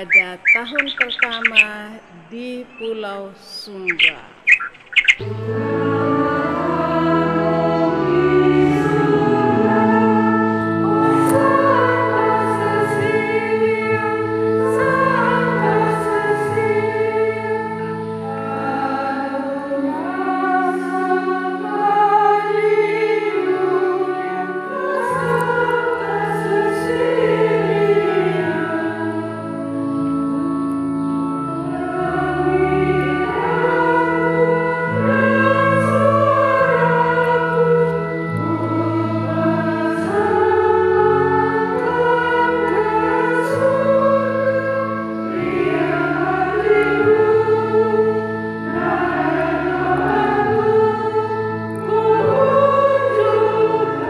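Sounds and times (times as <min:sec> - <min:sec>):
women singing a hymn: 0:00.0 - 0:04.0, 0:05.2 - 0:54.0.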